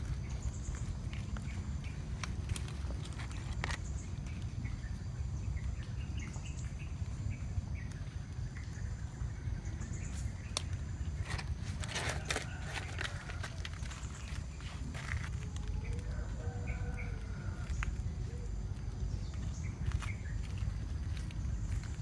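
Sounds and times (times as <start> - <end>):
insect chirps: 0.0 - 22.0
steady low rumble: 0.0 - 22.0.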